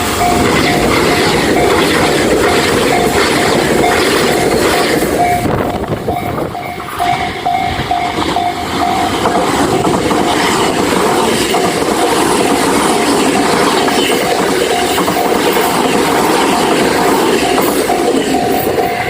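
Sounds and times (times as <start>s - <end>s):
level-crossing alarm bell ringing: 0.0s - 19.0s
passing train rumble and rail clatter: 0.0s - 19.0s.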